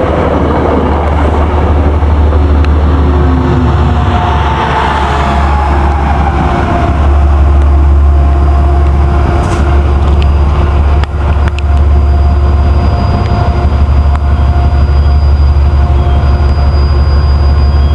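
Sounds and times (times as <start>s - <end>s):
diesel locomotives droning: 0.0s - 17.9s.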